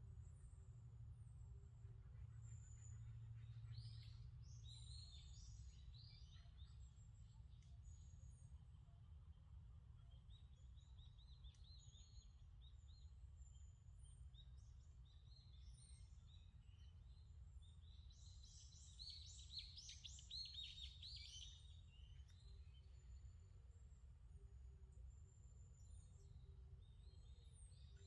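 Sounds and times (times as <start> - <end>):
small birds chirping: 3.1 - 24.2, 24.8 - 28.0.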